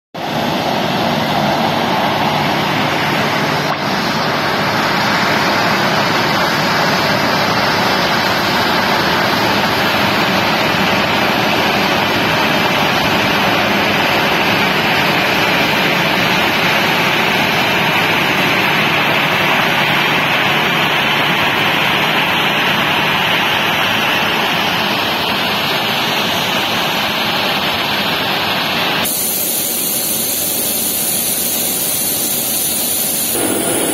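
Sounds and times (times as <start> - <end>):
jet engines running: 0.2 - 33.9.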